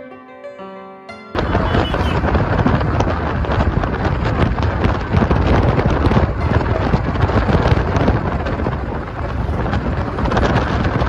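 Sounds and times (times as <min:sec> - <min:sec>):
wind buffeting microphone: 0:01.4 - 0:11.0.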